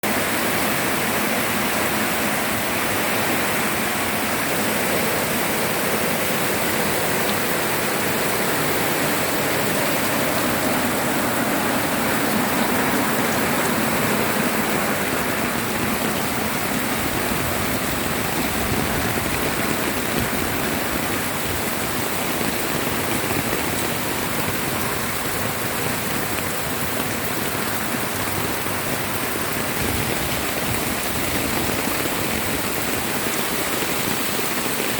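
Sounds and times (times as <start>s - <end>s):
heavy rain: 0.0s - 34.9s
runoff water rushing: 0.0s - 34.9s.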